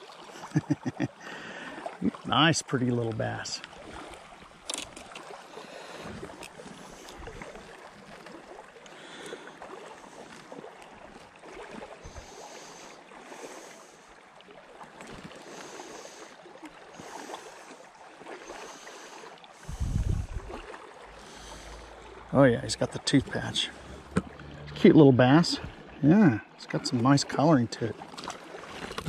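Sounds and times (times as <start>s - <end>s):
creek water rippling: 0.0s - 29.0s.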